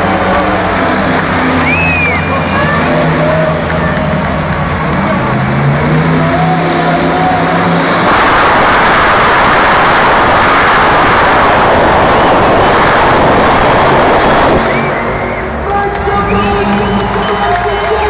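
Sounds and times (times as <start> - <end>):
monster truck engine running: 0.0 - 18.0.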